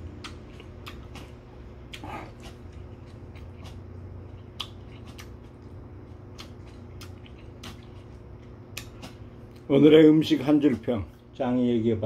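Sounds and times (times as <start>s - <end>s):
person chewing noodles: 0.0s - 9.7s
steady low hum: 0.0s - 12.0s.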